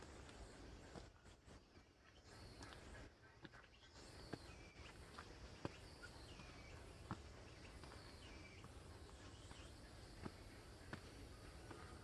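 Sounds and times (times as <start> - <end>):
small birds chirping: 0.0 - 12.0
soft footsteps on trail: 0.0 - 12.0.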